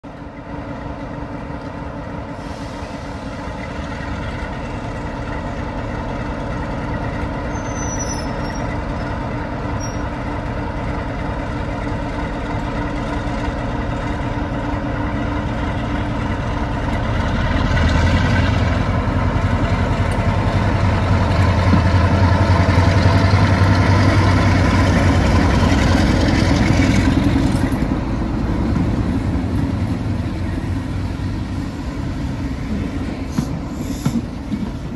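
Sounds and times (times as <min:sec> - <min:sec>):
diesel locomotive engine working hard: 0:00.0 - 0:34.9.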